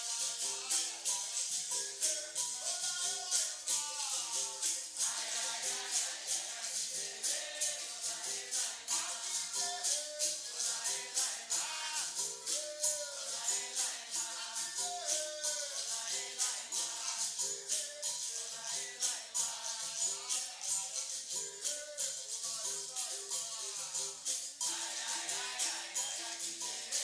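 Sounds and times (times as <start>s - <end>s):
berimbau: 0.0s - 27.0s
person singing: 0.0s - 27.0s
shaker: 0.0s - 27.0s
tambourine jingles: 0.0s - 27.0s.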